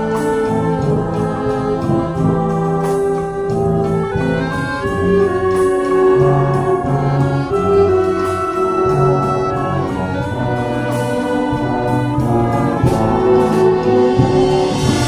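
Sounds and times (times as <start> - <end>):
concert wind band playing: 0.0 - 15.0.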